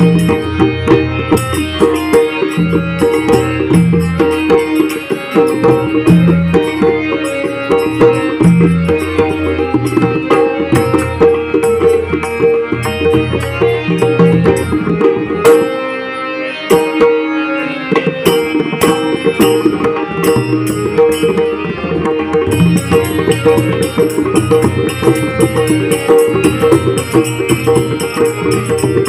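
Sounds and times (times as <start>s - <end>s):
harmonium playing held notes: 0.0s - 29.0s.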